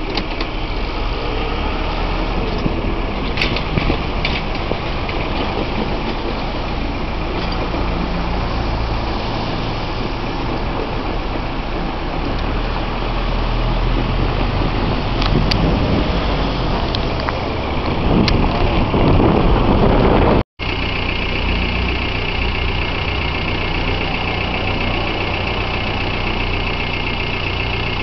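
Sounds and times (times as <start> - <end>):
car engines idling and pulling away: 0.0 - 28.0
road noise rumble: 0.0 - 28.0.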